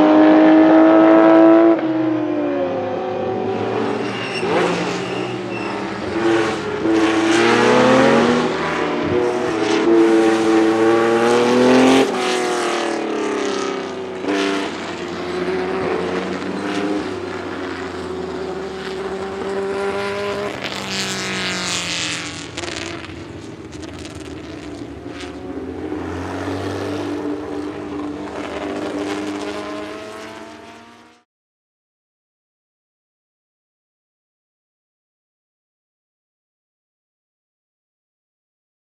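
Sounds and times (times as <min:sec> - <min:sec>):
racing car engine at high revs: 0:00.0 - 0:31.3.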